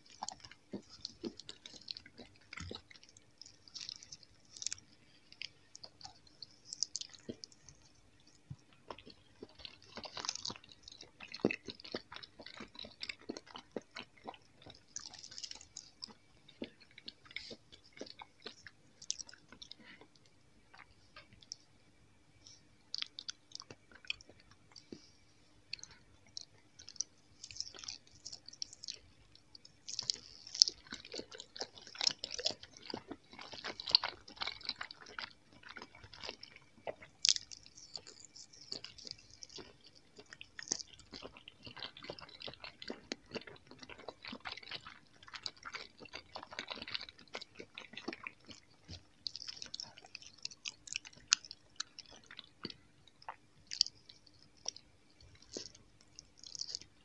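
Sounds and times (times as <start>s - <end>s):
person chewing gummy candy: 0.0s - 21.7s, 22.3s - 57.0s.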